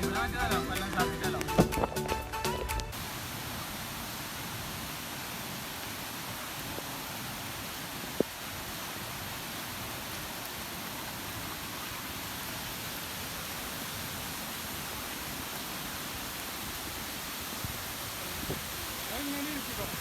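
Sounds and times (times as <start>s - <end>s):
rain hissing in forest: 0.0s - 20.0s.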